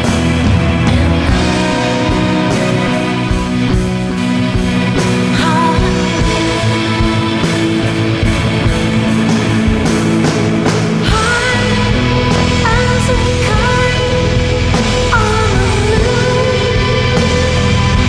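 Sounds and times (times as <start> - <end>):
person singing: 0.0 - 8.2, 11.0 - 18.0
drums: 0.0 - 18.0
electric guitars and bass: 0.0 - 18.0.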